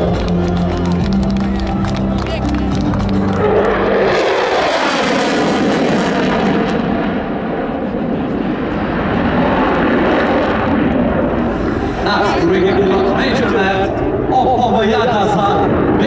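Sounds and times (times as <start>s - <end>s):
jet engine with afterburner: 0.0s - 16.0s.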